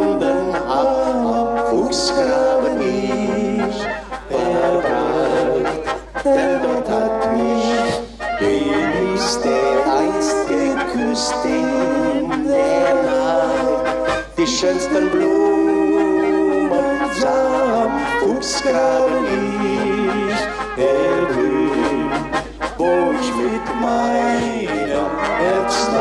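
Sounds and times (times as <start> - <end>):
brass band playing melody: 0.0 - 26.0.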